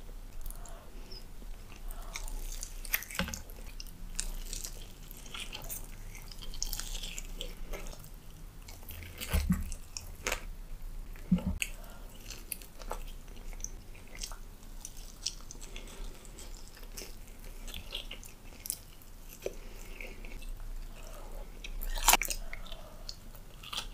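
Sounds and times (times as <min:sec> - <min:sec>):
chewing and crunching fried chicken: 0:00.3 - 0:23.9.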